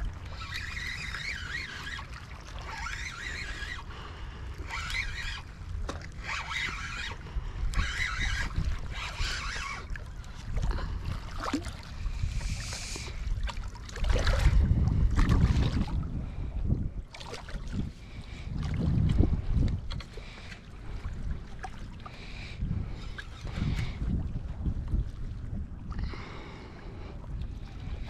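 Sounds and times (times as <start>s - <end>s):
water sloshing: 0.0s - 16.4s, 17.1s - 28.0s
wind rumbling on microphone: 0.0s - 28.0s.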